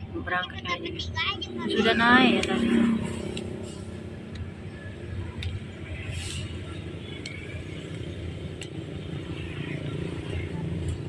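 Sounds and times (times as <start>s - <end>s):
locomotive engine rumbling: 0.0s - 11.0s.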